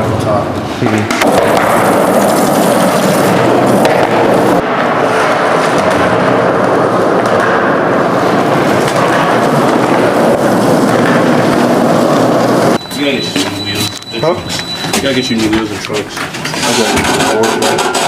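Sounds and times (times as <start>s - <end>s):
skateboard wheels rolling on concrete: 0.0s - 13.8s, 14.4s - 18.0s.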